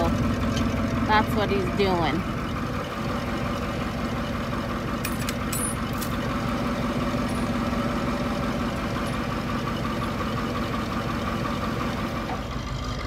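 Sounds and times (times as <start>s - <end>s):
large engine idling: 0.0s - 13.0s.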